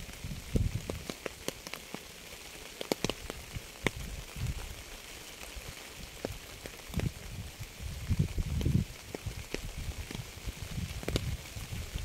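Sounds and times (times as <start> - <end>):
rain falling: 0.0 - 12.0
raindrops thudding on surface: 0.0 - 12.0.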